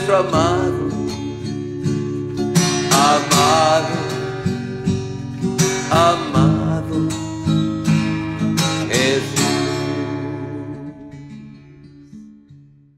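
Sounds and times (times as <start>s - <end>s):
strummed acoustic guitar: 0.0s - 12.9s.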